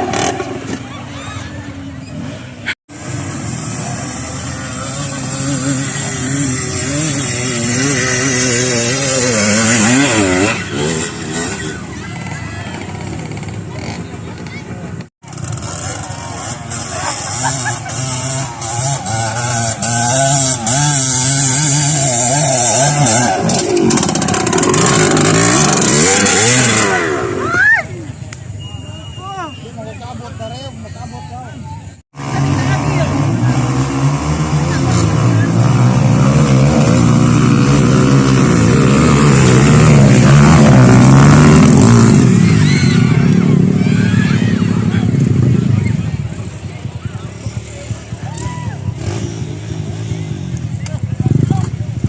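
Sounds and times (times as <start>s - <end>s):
motorcycle engine revving: 0.0s - 28.8s, 31.9s - 52.0s.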